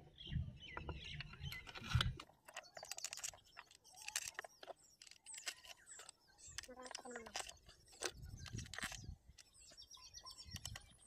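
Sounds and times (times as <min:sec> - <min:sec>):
hand tools clicking and tapping metal: 0:01.2 - 0:11.0.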